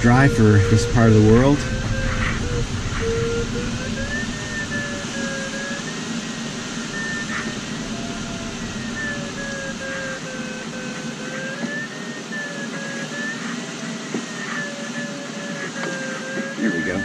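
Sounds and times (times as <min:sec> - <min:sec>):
airflow rushing over canopy: 0:00.0 - 0:17.0
electronic variometer tone: 0:00.0 - 0:17.0.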